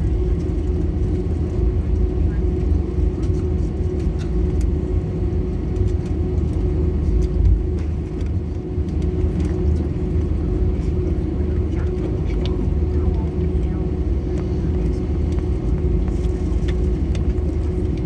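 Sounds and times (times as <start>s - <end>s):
aircraft engines rumbling in cabin: 0.0s - 18.0s
steady hum: 0.0s - 18.0s.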